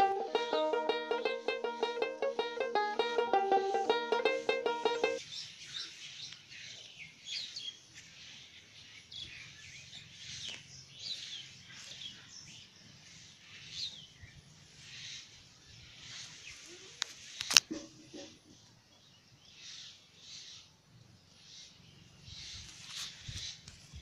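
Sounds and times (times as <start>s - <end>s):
faint steady background noise: 0.0s - 24.0s.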